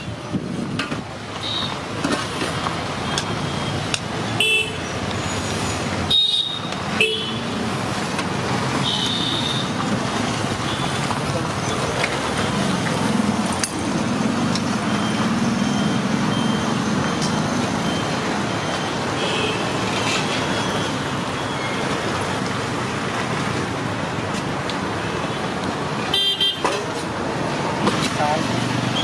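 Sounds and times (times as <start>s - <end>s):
road traffic roar: 0.0s - 29.0s.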